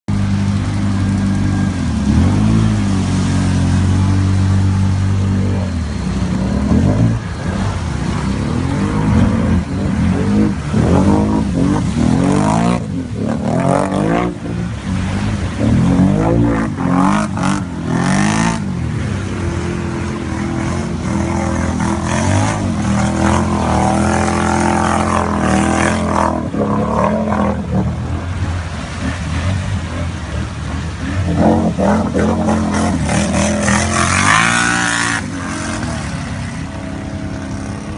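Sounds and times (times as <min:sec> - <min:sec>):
atv engine revving: 0:00.1 - 0:37.9.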